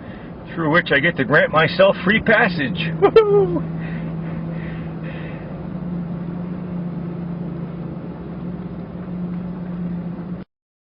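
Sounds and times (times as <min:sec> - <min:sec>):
vehicle engine humming: 0:00.0 - 0:10.5.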